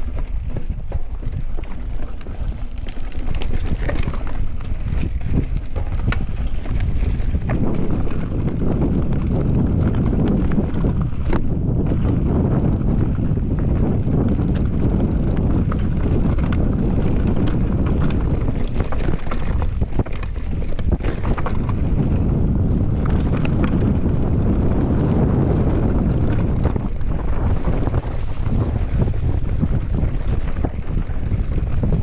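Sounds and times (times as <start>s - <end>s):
bike rattling clicks and knocks: 0.0s - 32.0s
tyres rumbling on dirt: 0.0s - 32.0s
wind buffeting microphone: 0.0s - 32.0s.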